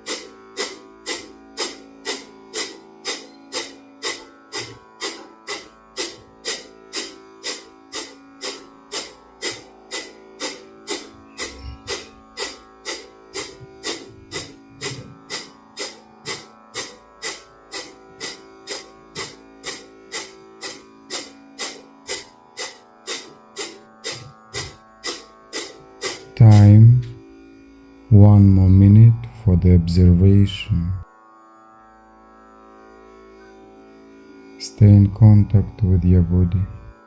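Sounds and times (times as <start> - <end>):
soft background music: 0.0 - 31.1, 34.6 - 37.0.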